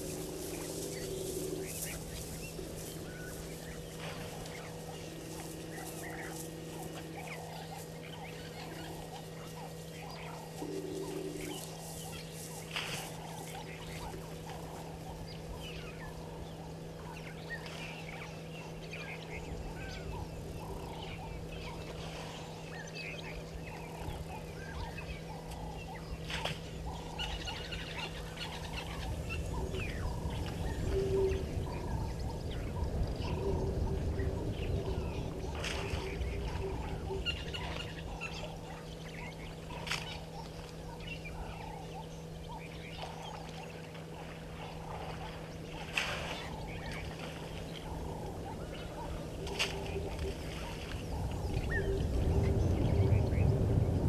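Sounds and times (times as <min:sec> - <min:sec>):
birds chirping: 0:00.0 - 0:54.0
low electrical hum: 0:00.0 - 0:54.0.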